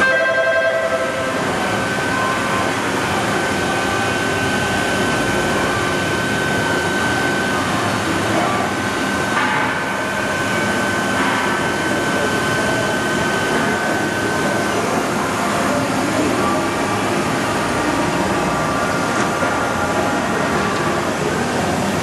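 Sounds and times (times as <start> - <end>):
high machine whine: 0.0 - 22.0
machinery noise: 0.0 - 22.0.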